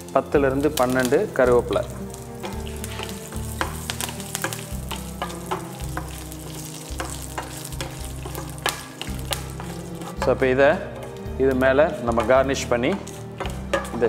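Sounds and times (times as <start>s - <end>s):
spices sizzling in oil: 0.0s - 14.0s
wooden spatula stirring: 0.6s - 14.0s.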